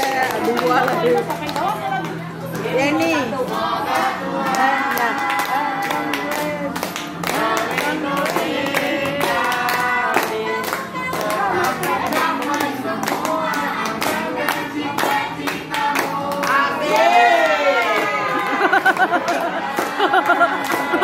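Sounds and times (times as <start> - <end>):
hands clapping along: 0.0 - 2.7, 3.5 - 21.0
group singing: 2.2 - 21.0.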